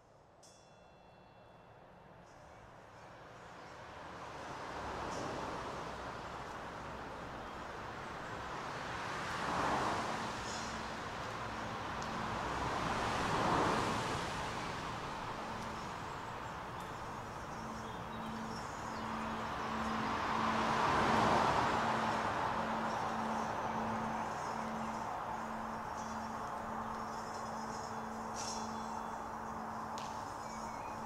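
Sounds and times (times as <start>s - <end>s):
vehicles passing overhead: 2.5s - 31.0s.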